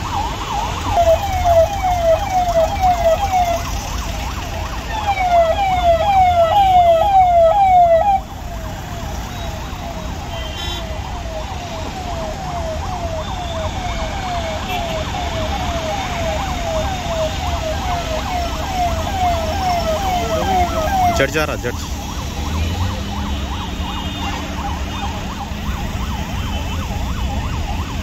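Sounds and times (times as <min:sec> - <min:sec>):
emergency vehicle siren: 0:00.0 - 0:28.0
traffic rumble: 0:00.0 - 0:28.0.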